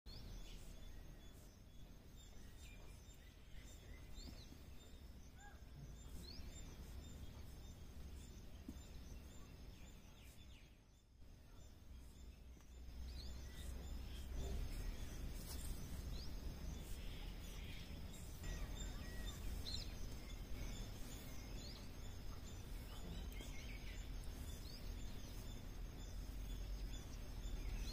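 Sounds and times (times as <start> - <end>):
faint bird chirps: 0.1 - 27.9
steady low rumble: 0.1 - 27.9.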